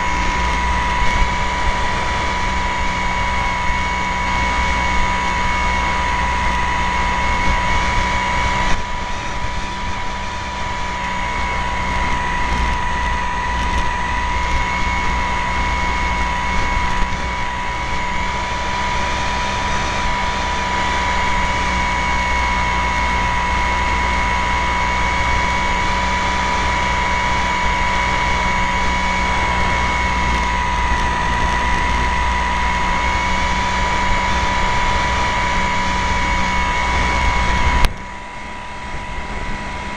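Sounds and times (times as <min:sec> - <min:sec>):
model airplane motor whine: 0:00.0 - 0:39.9
wind rush: 0:00.0 - 0:39.9.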